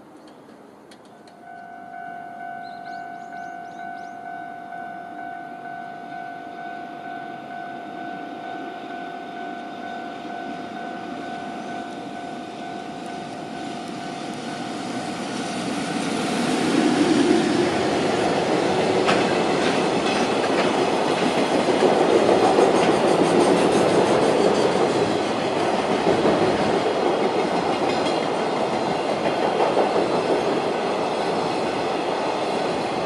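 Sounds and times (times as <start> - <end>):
freight train rumble: 0.0 - 33.0.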